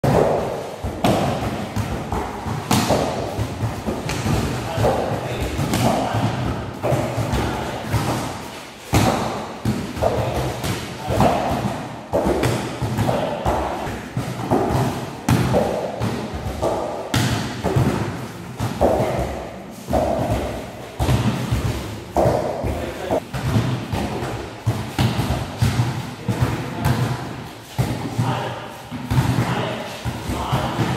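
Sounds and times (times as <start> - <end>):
volleyball thumps echoing: 0.0 - 30.9.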